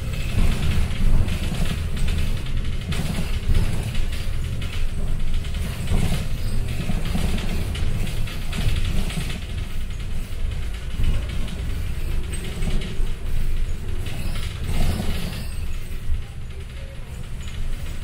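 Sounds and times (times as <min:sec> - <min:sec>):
bus body rattling: 0:00.0 - 0:18.0
bus engine and road rumble: 0:00.0 - 0:18.0.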